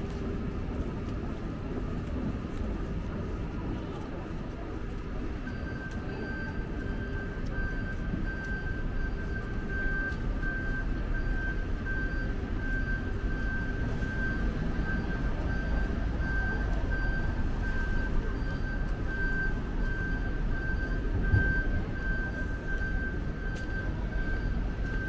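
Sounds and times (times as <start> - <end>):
street traffic rumbling: 0.0 - 25.0.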